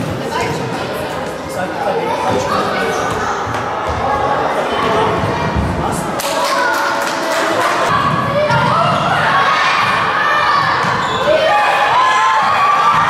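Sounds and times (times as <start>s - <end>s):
crowd shouting and cheering: 1.9s - 13.0s.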